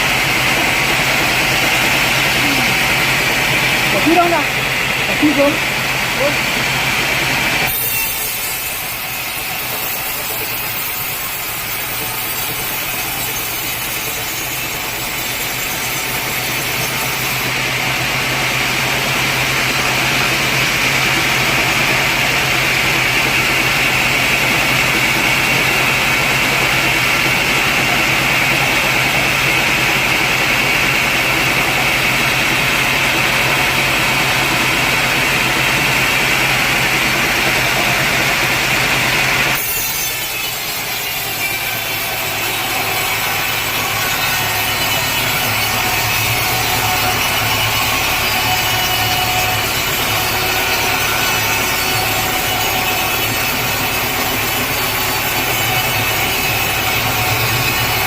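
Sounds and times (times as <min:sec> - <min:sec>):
high steady whine: 0:00.0 - 0:11.5, 0:16.9 - 0:58.0
sawmill saw cutting log: 0:00.0 - 0:58.0.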